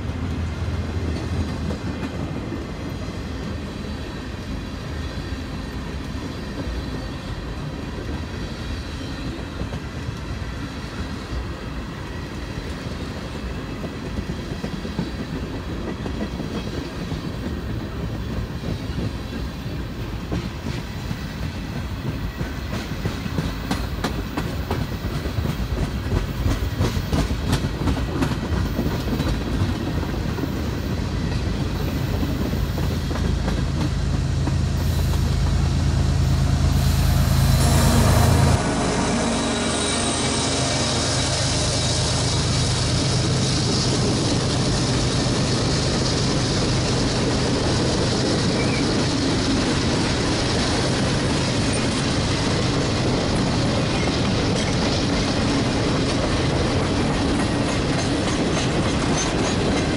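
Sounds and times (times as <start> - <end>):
diesel locomotive drone: 0.0 - 59.9.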